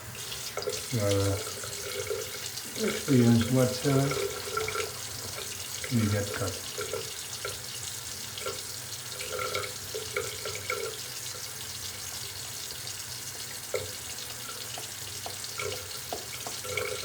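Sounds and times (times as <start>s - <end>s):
water running from sink tap: 0.0s - 17.0s.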